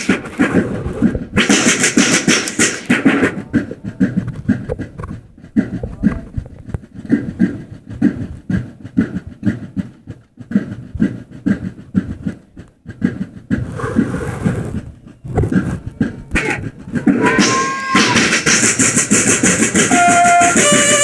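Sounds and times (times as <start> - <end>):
snare drums marching cadence: 0.0 - 21.0.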